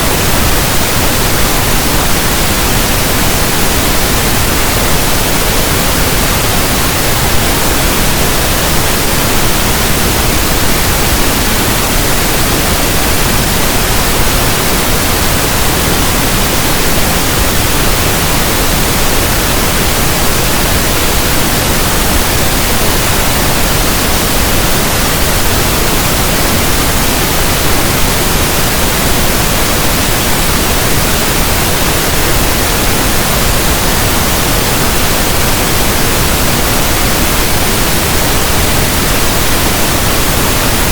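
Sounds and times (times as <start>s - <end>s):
pink noise static hiss: 0.0s - 40.9s.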